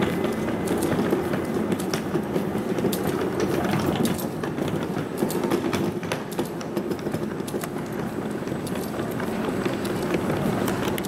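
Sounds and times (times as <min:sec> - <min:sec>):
footsteps on tiled floor: 0:00.0 - 0:11.0.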